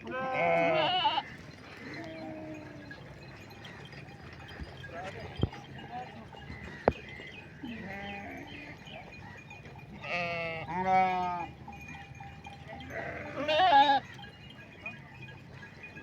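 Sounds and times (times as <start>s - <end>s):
goats and sheep bleating: 0.0s - 15.0s.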